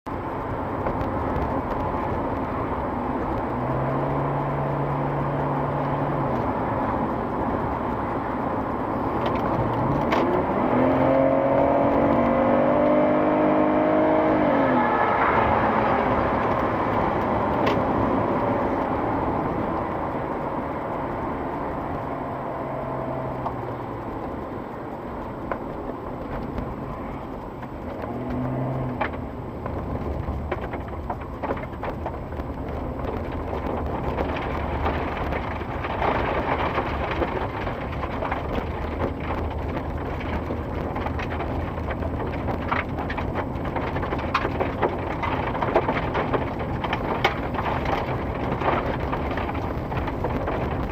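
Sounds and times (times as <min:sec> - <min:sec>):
crackles and ticks: 0:00.1 - 0:50.9
passing vehicle engine: 0:00.6 - 0:44.3.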